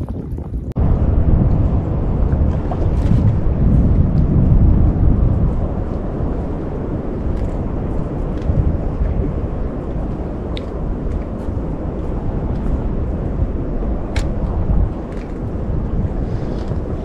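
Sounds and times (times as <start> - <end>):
wind and sea rumble: 0.0 - 17.0.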